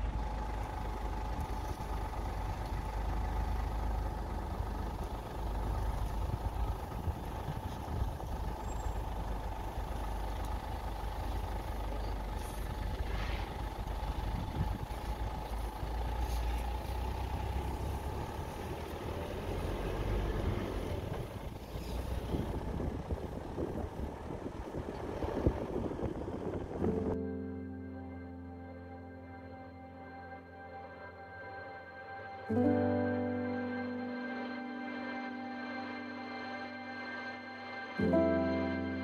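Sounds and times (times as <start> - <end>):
vehicle engine rumble: 0.0 - 39.0.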